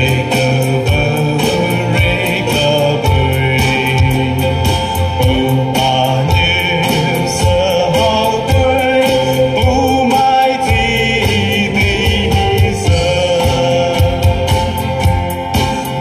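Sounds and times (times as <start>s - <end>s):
acoustic guitar: 0.0s - 16.0s
keyboards: 0.0s - 16.0s
steady beat: 0.0s - 16.0s
voices singing together: 0.0s - 16.0s.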